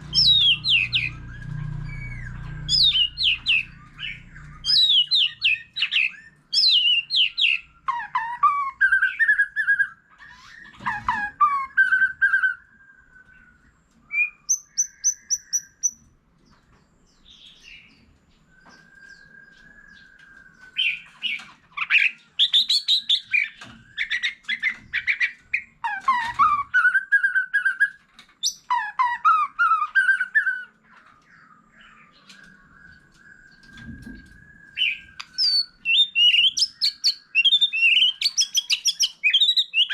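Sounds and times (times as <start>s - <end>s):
bird singing whistled phrases: 0.1s - 16.0s, 18.5s - 21.2s, 21.8s - 30.7s, 31.4s - 39.9s.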